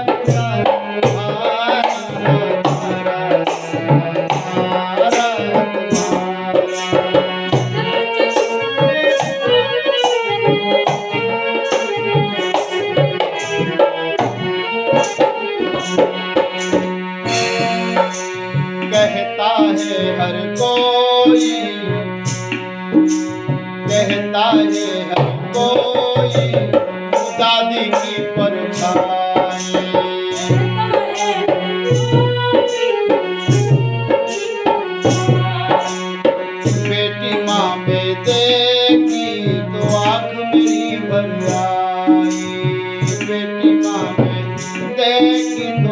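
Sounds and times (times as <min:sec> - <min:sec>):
instrumental melody: 0:00.0 - 0:45.9
tabla rhythm: 0:00.0 - 0:45.9.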